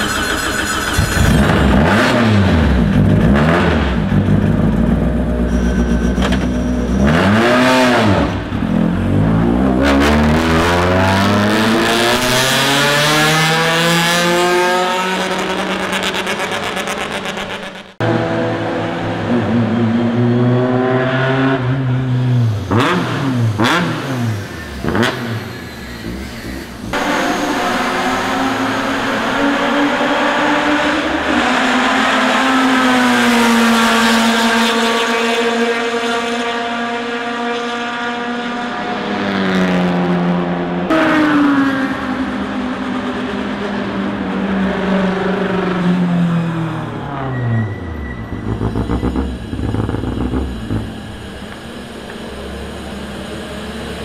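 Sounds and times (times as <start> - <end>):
race car engines accelerating: 0.0 - 54.0
cars sweeping past: 5.5 - 54.0.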